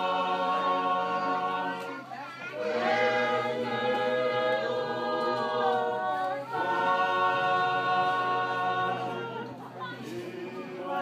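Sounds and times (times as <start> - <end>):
group singing a cappella: 0.0 - 11.0.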